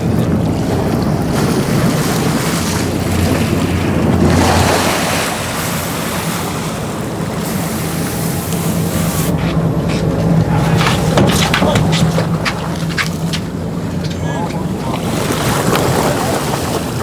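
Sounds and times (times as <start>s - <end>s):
boat engine drone: 0.0s - 17.0s
rushing water: 0.0s - 17.0s
wind buffeting microphone: 0.0s - 17.0s.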